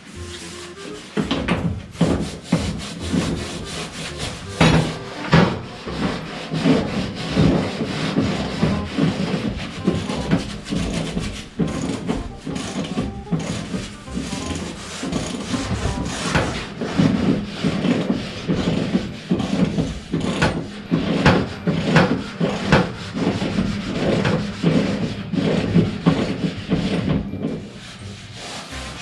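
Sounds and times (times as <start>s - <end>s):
hand tools scraping metal bodywork: 0.0s - 29.0s.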